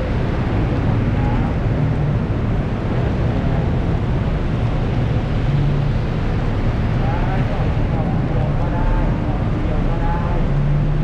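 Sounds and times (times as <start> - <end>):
heavy rain: 0.0 - 11.0
low rumble: 0.0 - 11.0.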